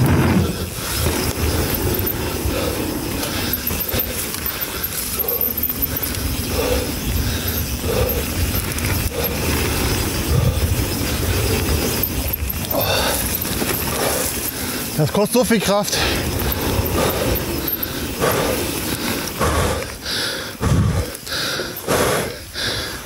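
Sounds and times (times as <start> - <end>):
bike squeaks: 0.0 - 19.5
bike tyres rumbling and rattling: 0.0 - 23.0.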